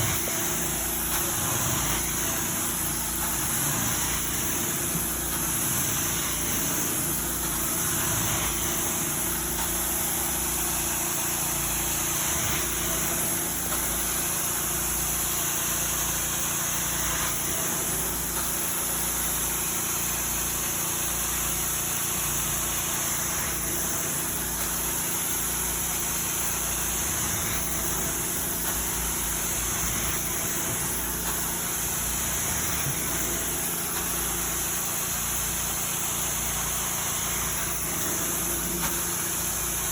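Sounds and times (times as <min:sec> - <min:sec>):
vacuum machine humming and hissing: 0:00.0 - 0:39.9.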